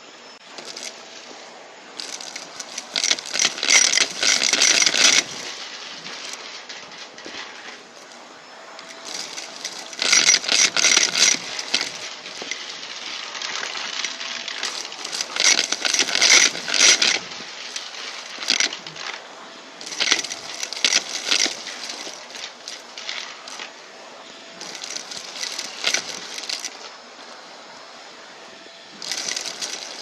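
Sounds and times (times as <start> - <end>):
debris rattling in vacuum: 0.5 - 1.2, 2.0 - 23.9, 24.5 - 27.0, 29.0 - 30.0
vacuum cleaner running: 0.5 - 30.0.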